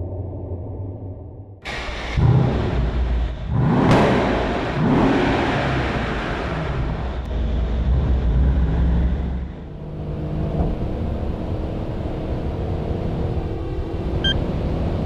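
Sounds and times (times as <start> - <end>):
car engine under load: 0.0 - 15.0.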